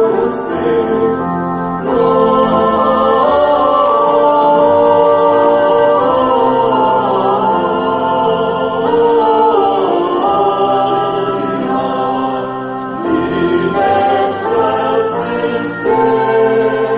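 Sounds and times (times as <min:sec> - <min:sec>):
choir singing a cappella: 0:00.0 - 0:16.9.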